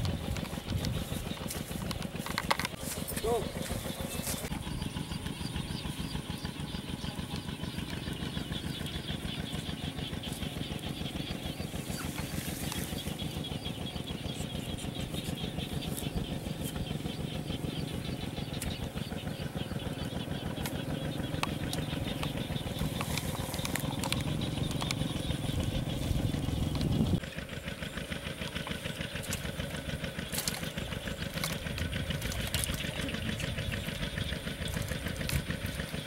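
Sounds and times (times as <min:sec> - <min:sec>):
small engine chugging: 0:00.0 - 0:36.0.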